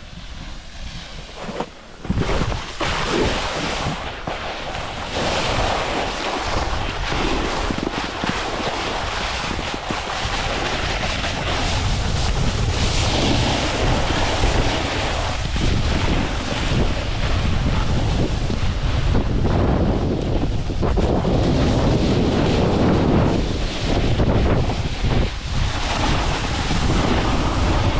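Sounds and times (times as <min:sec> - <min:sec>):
sliding on packed snow: 0:00.0 - 0:27.9
wind buffeting microphone: 0:00.0 - 0:27.9.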